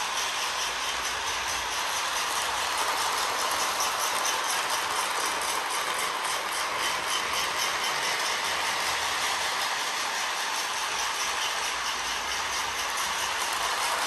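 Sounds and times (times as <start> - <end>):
toy train rattling on track: 0.0 - 14.0.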